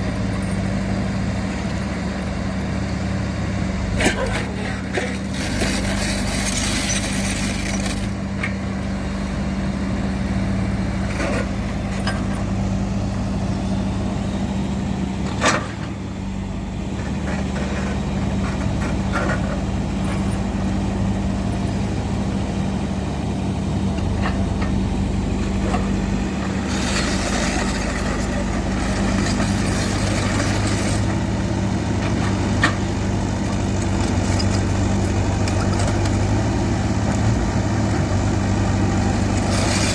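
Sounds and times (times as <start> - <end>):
diesel construction machine running: 0.0 - 39.9.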